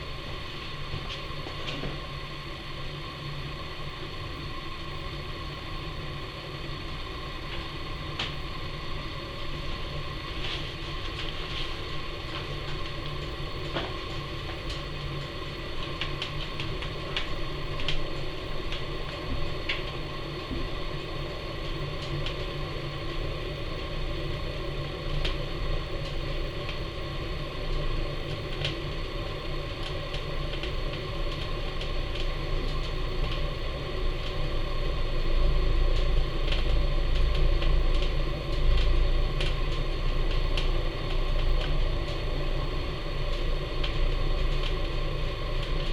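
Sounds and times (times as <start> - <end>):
wood fire crackling and popping: 0.0 - 2.4, 6.6 - 45.9
low rumble of fire draft: 0.0 - 45.9.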